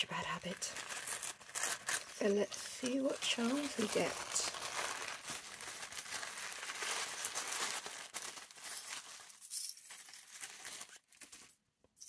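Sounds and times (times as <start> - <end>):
tissue paper rustling: 0.1 - 11.6.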